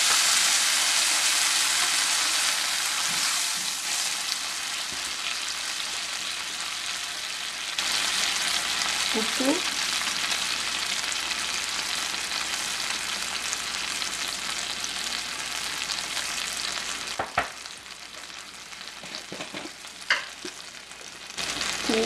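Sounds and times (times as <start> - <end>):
onions sizzling in a wok: 0.0 - 22.0.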